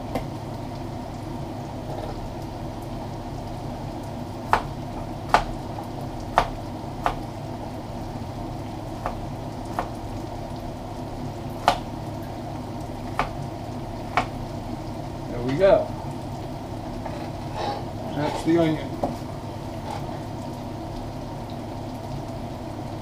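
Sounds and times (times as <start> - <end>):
meat sizzling in a pot: 0.0 - 23.0.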